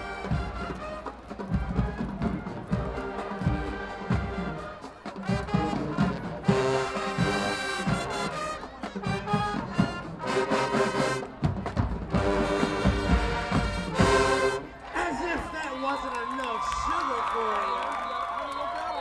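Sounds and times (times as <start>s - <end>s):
marching band brass: 0.0s - 19.0s.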